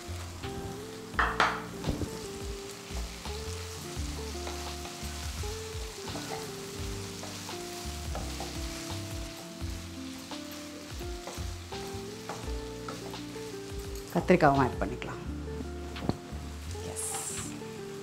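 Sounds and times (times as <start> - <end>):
prawns sizzling in hot oil: 0.0 - 18.0.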